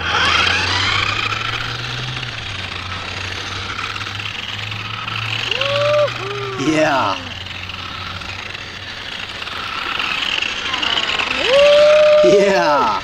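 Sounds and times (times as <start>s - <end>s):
remote-control car motor whining: 0.0s - 13.0s.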